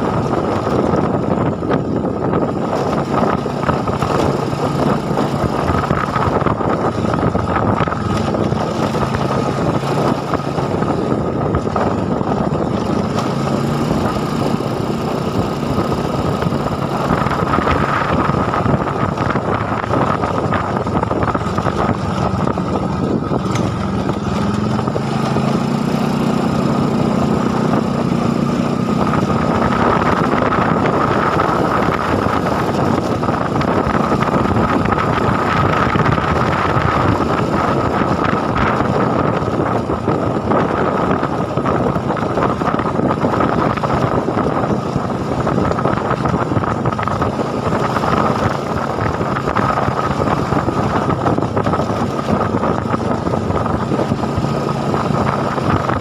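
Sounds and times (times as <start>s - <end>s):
small motorcycle engine running: 0.0s - 56.0s
wind rushing over microphone: 0.0s - 56.0s.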